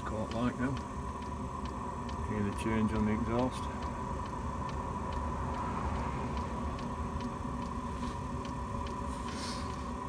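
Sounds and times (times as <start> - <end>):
fuel pump clicking: 0.0 - 10.0
heater fan whirring: 0.0 - 10.0.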